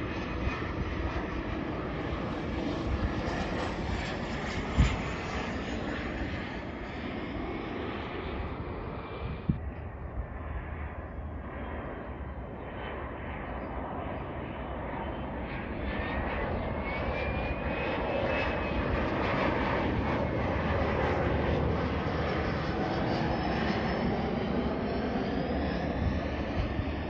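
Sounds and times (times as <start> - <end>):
jet rumble overhead: 0.0 - 27.0.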